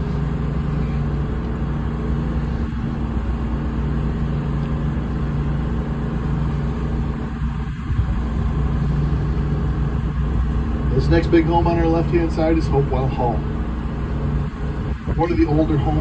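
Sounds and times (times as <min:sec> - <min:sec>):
boat engine droning: 0:00.0 - 0:16.0
wind and water rushing: 0:00.0 - 0:16.0.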